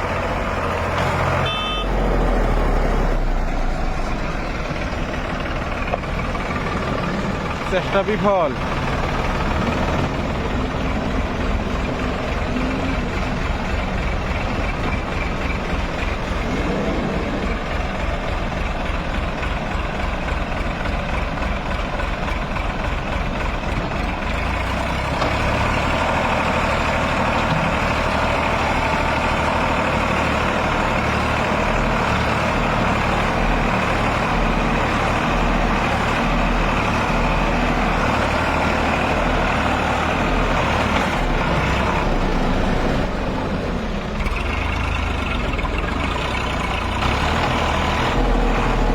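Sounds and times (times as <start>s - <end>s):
diesel engine rumbling: 0.0s - 48.9s.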